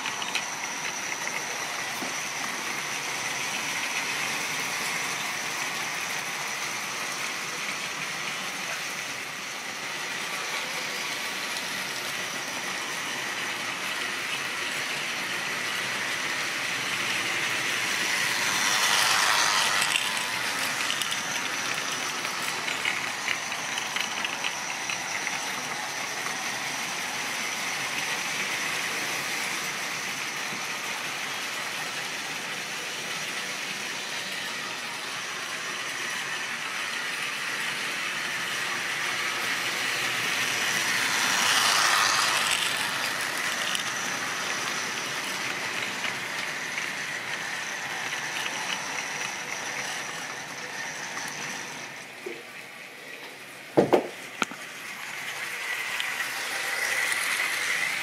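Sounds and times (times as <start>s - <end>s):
model train wheels rattling on rails: 0.0s - 58.0s.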